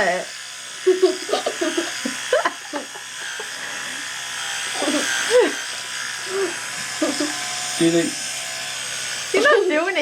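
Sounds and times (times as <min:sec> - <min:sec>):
electric toothbrush buzzing: 0:00.0 - 0:10.0.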